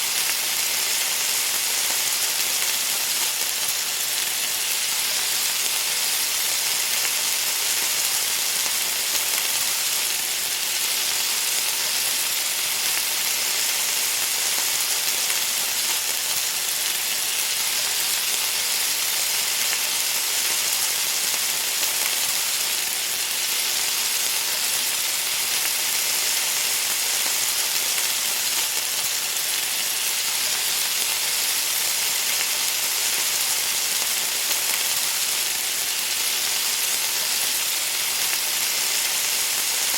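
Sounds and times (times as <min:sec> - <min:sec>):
hot food sizzling: 0:00.0 - 0:39.9.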